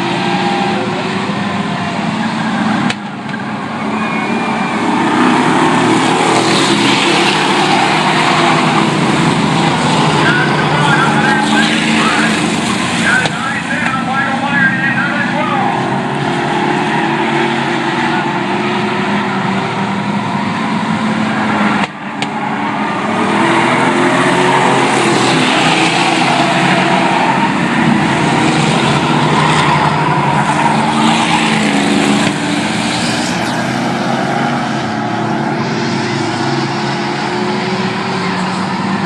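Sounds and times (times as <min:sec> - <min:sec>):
truck engines racing: 0:00.0 - 0:39.0.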